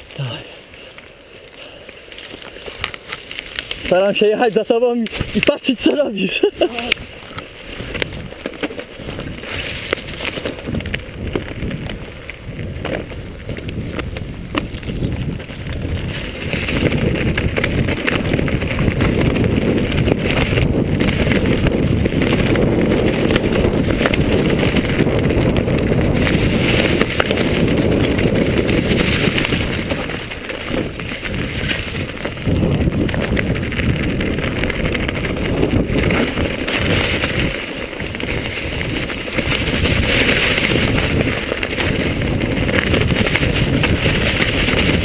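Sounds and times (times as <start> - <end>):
bike rattling over bumps: 0.0 - 45.0
bike tyre rumble: 0.0 - 45.0
wind buffeting microphone: 2.6 - 45.0.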